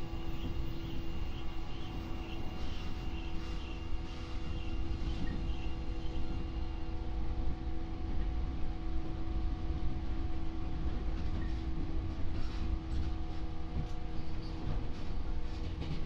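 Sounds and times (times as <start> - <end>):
electric train equipment humming: 0.0 - 15.9.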